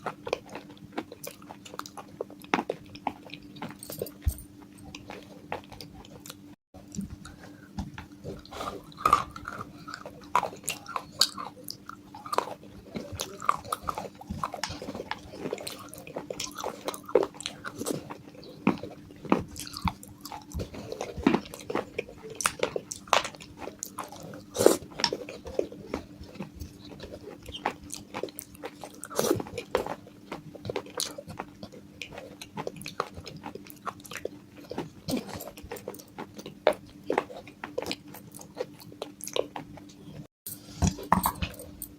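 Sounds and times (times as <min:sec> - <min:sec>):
chewing crunchy clay pieces: 0:00.0 - 0:41.9
faint steady hum: 0:00.0 - 0:41.9.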